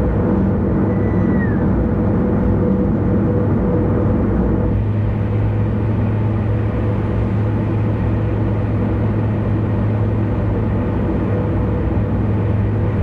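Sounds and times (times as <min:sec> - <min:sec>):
car tyres and engine drone: 0:00.0 - 0:13.0.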